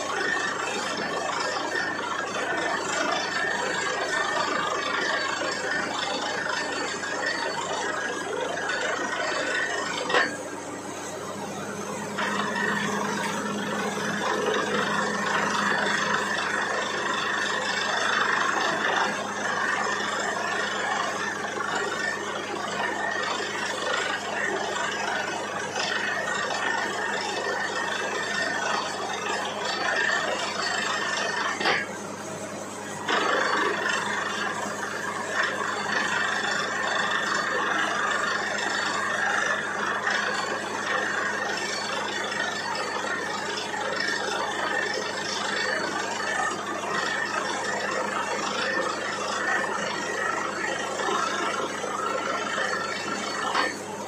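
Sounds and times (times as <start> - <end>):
drilling rig running: 0.0 - 54.0.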